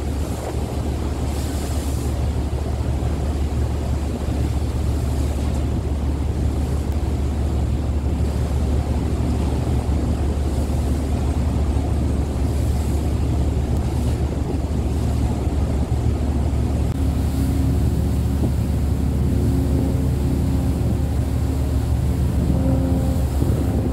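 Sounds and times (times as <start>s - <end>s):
ferry engines rumbling: 0.0s - 23.9s
sea wash: 0.0s - 23.9s
wind on microphone: 0.0s - 23.9s.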